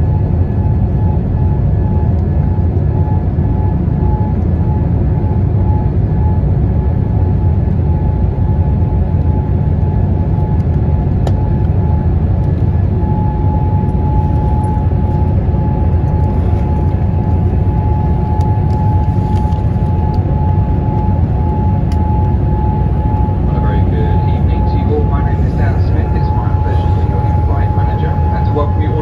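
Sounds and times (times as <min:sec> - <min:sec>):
jet engine and airflow roar: 0:00.0 - 0:29.0
steady whine: 0:00.0 - 0:29.0.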